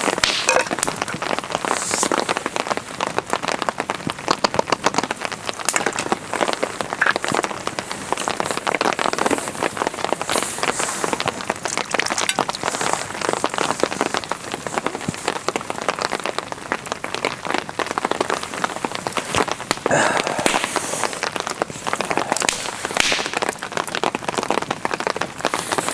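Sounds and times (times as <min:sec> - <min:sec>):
heavy rain falling: 0:00.0 - 0:25.9
raindrops ticking near microphone: 0:00.0 - 0:25.9.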